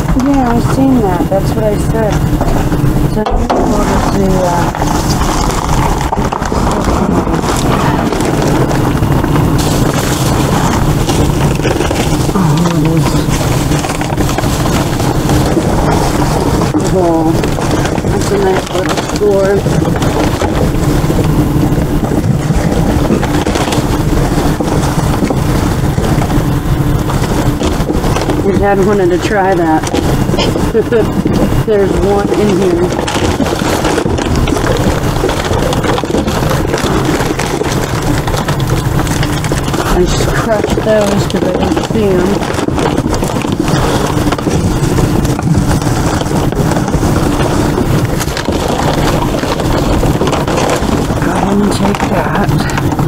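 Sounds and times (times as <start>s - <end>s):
low rumble: 0.0s - 53.0s
plastic bags and boxes rustling: 0.0s - 53.0s.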